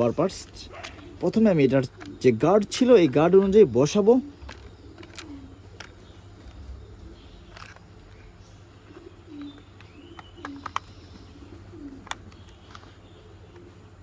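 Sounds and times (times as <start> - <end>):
bird cooing: 0.0 - 14.0.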